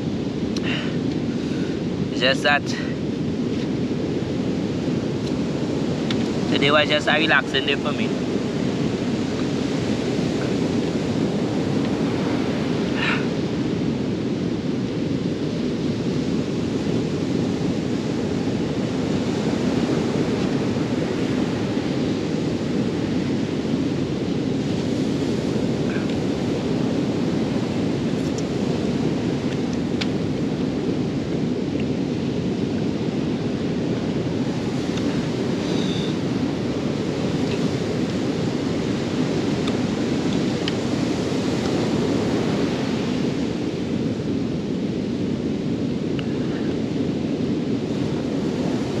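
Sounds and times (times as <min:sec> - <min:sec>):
surf rumbling: 0:00.0 - 0:49.0
wind: 0:00.0 - 0:49.0.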